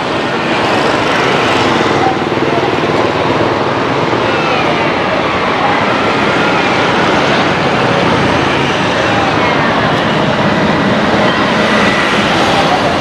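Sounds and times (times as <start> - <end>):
scooters and cars passing: 0.0 - 13.0.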